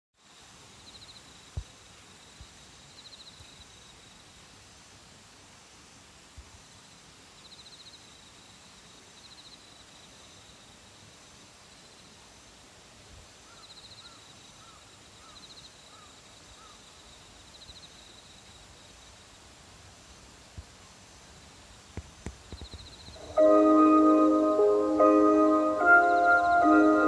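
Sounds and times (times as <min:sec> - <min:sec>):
steady hiss: 0:00.2 - 0:27.0.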